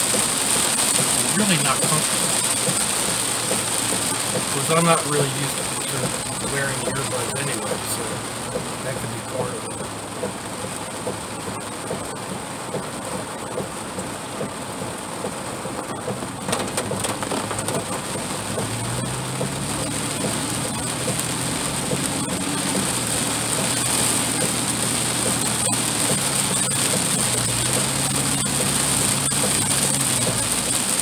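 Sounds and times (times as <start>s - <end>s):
heavy rain on windshield and roof: 0.0s - 31.0s
low engine hum: 0.0s - 31.0s.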